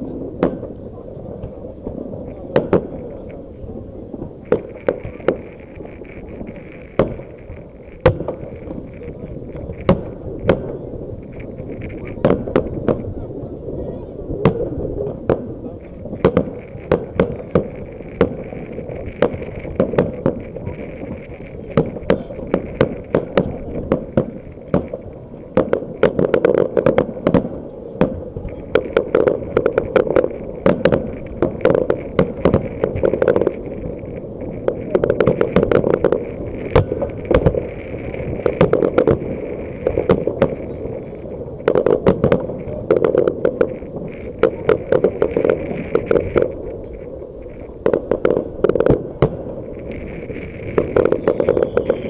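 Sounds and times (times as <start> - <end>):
fireworks bursting with sharp bangs: 0.0 - 52.0.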